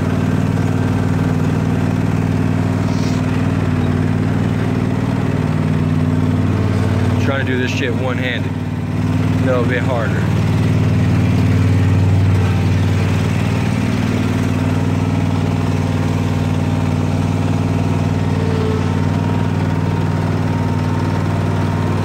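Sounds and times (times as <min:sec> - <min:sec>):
riding mower engine droning: 0:00.0 - 0:22.0.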